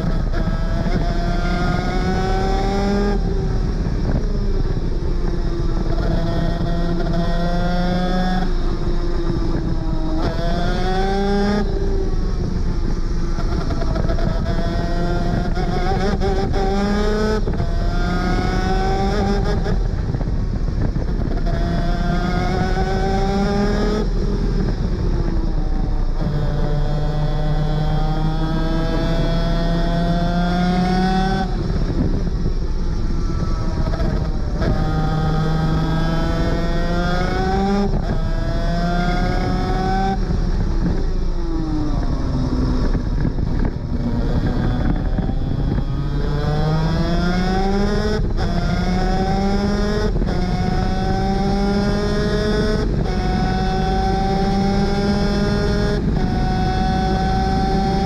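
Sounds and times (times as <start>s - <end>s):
kart engine at full throttle: 0.0s - 58.0s
wind rush: 0.0s - 58.0s.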